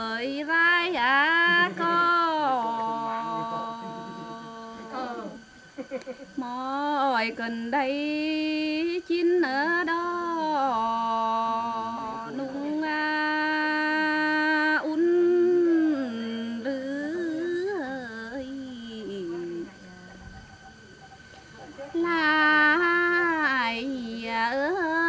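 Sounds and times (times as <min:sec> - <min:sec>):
woman singing unaccompanied: 0:00.0 - 0:05.4, 0:06.3 - 0:20.6, 0:21.9 - 0:25.0.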